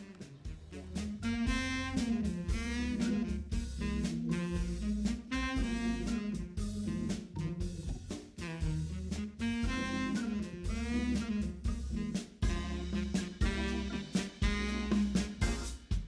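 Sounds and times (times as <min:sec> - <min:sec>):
bass: 0:00.0 - 0:16.0
drum kit: 0:00.0 - 0:16.0
jazz saxophone melody: 0:00.0 - 0:16.0.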